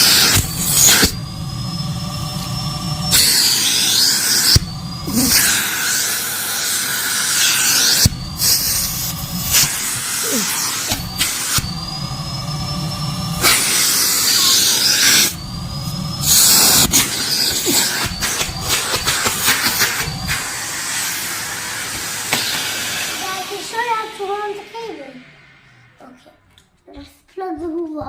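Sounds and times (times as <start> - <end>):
vacuum cleaner running: 0.0 - 26.8.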